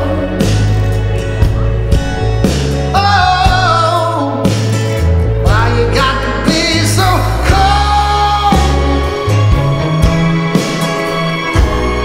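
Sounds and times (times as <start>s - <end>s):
deep bass line: 0.0s - 12.0s.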